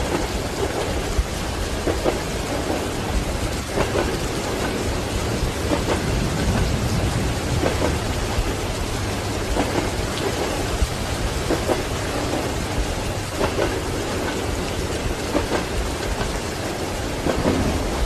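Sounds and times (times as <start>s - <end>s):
steady rain: 0.0s - 18.0s
train wheels clacking over rails: 0.0s - 18.0s.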